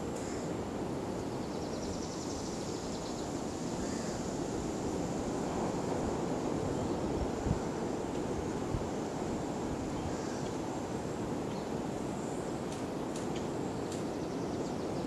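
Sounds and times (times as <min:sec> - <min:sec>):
low rushing outdoor ambience: 0:00.0 - 0:15.0.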